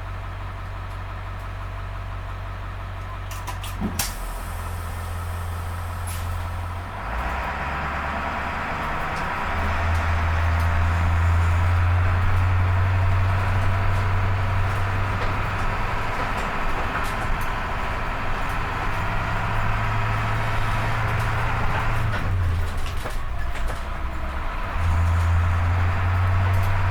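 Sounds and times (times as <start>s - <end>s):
diesel engine droning: 0.0s - 26.9s.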